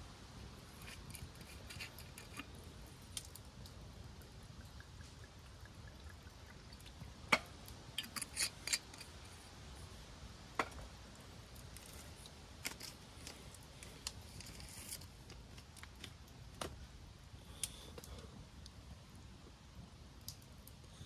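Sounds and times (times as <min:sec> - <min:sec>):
wood fire crackling: 0:00.0 - 0:21.0
fire popping: 0:00.4 - 0:09.5, 0:10.5 - 0:20.9.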